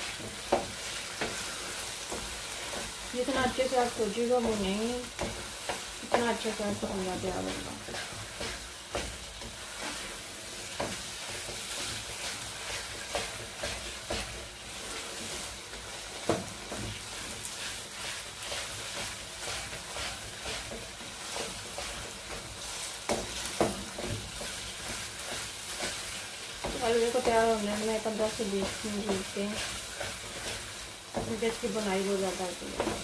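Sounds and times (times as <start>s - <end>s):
semolina sizzling in oil: 0.0s - 33.0s
spoon scraping and knocking pan: 0.0s - 33.0s.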